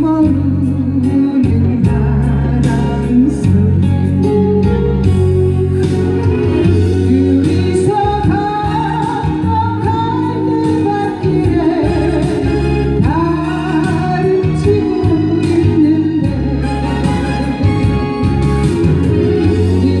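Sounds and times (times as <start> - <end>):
bass and drum accompaniment: 0.0 - 20.0
person singing: 0.0 - 20.0.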